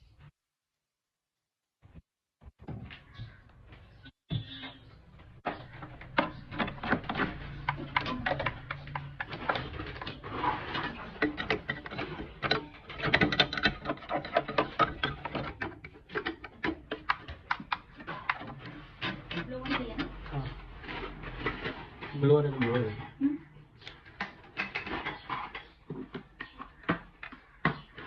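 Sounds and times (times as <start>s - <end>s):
hard objects clicking and clattering: 5.4s - 28.0s.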